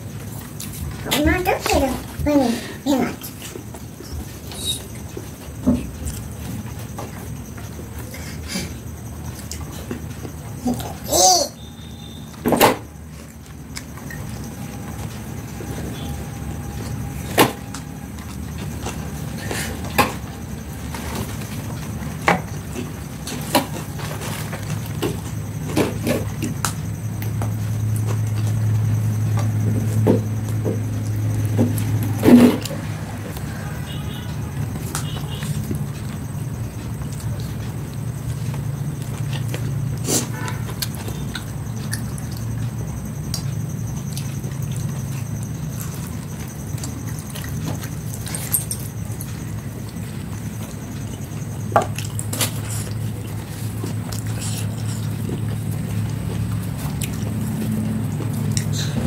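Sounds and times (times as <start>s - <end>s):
steady low hum: 0.0s - 59.0s
chewing and mouth-smacking: 3.1s - 59.0s.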